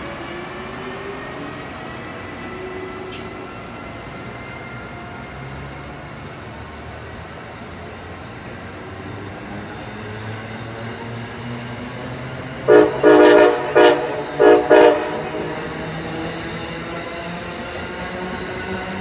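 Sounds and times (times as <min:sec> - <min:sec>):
train rolling on rails: 0:00.0 - 0:19.0.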